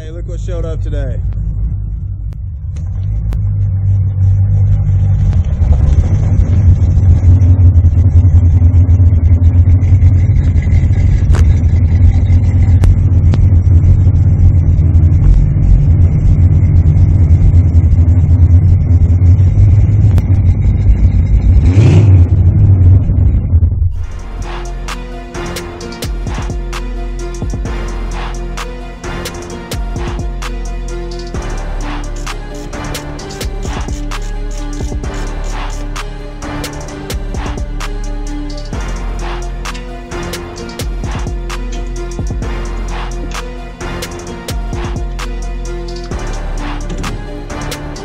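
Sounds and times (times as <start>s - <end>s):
car engine rumbling: 0.0s - 48.0s.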